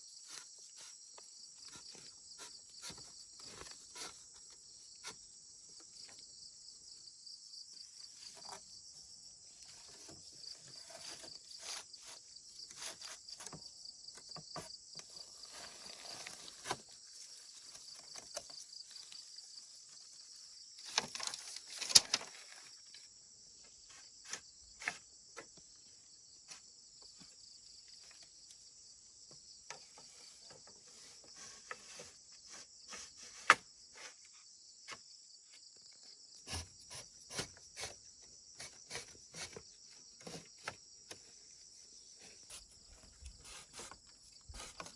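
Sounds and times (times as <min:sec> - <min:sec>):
insects chirring: 0:00.0 - 0:44.9.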